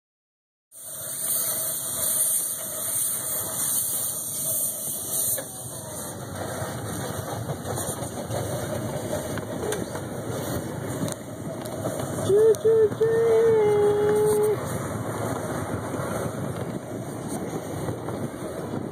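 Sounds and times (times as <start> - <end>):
miniature train rumbling: 0.8 - 18.9.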